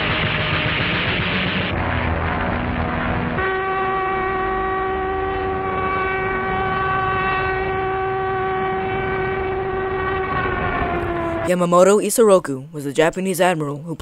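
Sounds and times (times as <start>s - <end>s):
steady horn-like tone: 0.0s - 12.0s.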